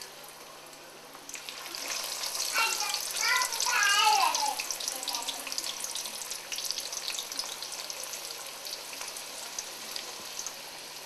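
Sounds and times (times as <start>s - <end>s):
hot oil sizzling in a skillet: 0.0s - 11.0s.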